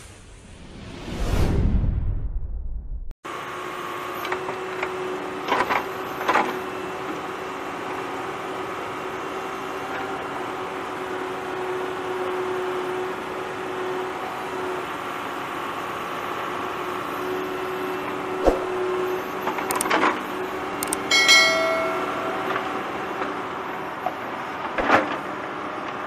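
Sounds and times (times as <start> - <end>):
backhoe diesel engine running: 4.7 - 26.0.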